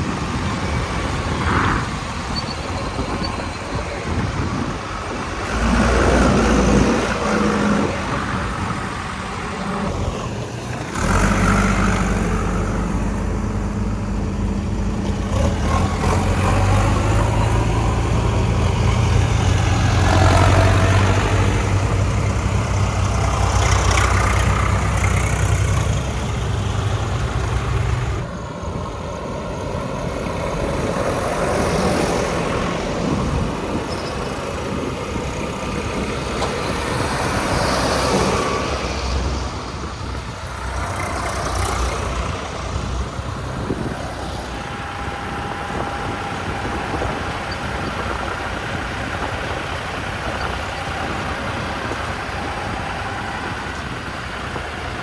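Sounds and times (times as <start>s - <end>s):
constant mechanical noise: 0.0s - 55.0s
heavy diesel engine running: 0.0s - 55.0s.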